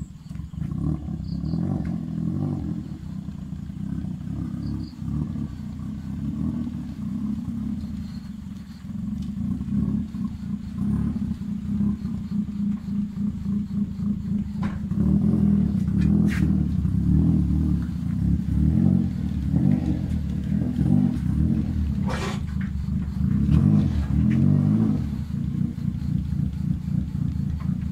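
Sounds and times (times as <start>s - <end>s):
car exhaust idling: 0.0s - 27.9s.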